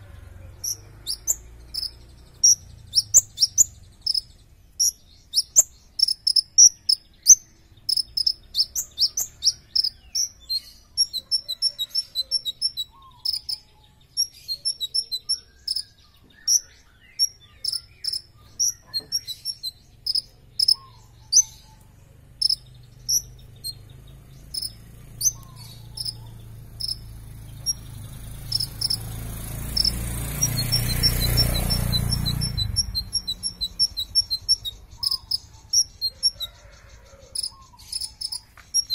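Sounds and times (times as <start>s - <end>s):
bird chirping and twittering: 0.0s - 38.9s
passing vehicle rumble: 0.0s - 38.9s.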